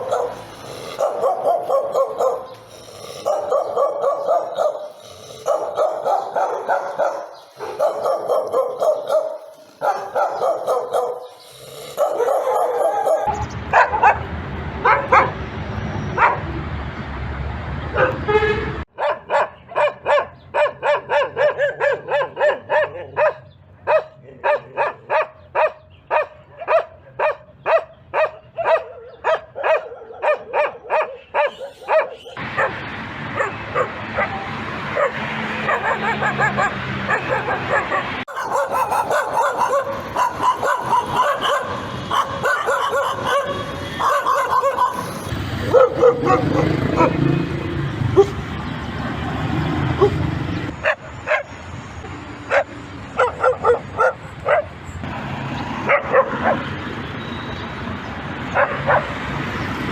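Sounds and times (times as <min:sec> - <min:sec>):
dog barking: 0:00.0 - 0:15.4, 0:16.1 - 0:16.5, 0:17.9 - 0:47.3, 0:48.1 - 0:48.4, 0:50.0 - 0:51.6, 0:52.5 - 0:54.8, 0:55.8 - 0:56.7, 0:58.5 - 0:59.2
dogs barking and yelping: 0:00.0 - 0:16.5, 0:17.9 - 0:18.3, 0:19.0 - 0:48.7, 0:49.3 - 0:55.1, 0:55.7 - 0:56.8, 0:58.1 - 0:59.9.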